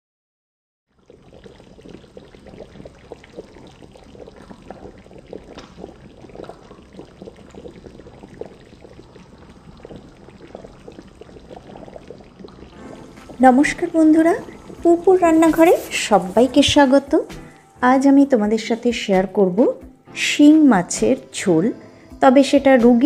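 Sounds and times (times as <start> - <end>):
curry bubbling in a metal pan: 0.9 - 19.4.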